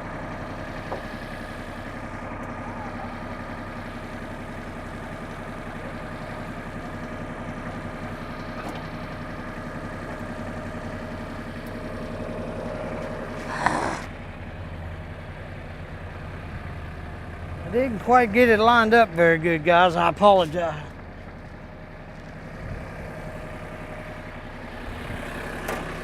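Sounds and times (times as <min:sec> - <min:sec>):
tractor diesel engine idling: 0:00.0 - 0:26.0.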